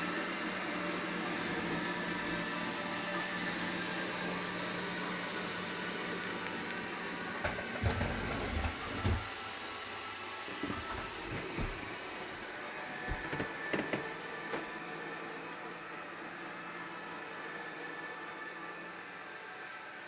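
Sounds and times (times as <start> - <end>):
robot vacuum whirring: 0.0 - 19.1.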